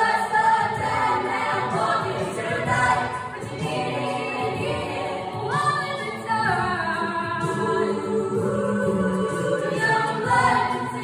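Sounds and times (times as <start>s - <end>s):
a cappella ensemble singing: 0.0s - 11.0s.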